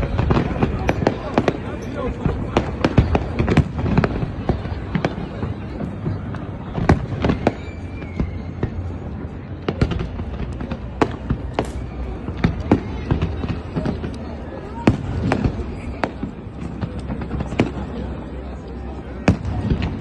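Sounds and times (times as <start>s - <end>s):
fireworks bangs: 0.0s - 20.0s
low rumble of explosions: 0.0s - 20.0s.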